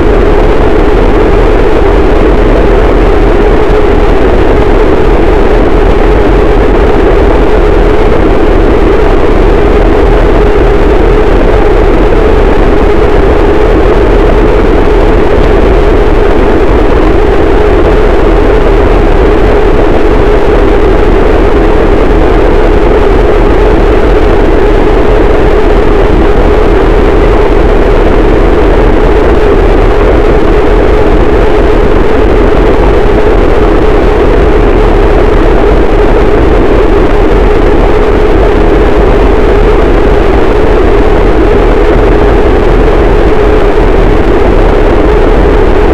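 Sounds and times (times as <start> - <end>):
deep rumble: 0.0 - 45.9
dense distorted noise wall: 0.0 - 45.9.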